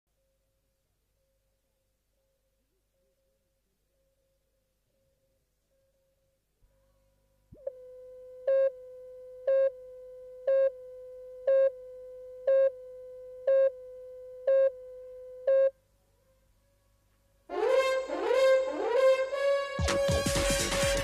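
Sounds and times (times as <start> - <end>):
faint low hum: 0.1 - 17.5.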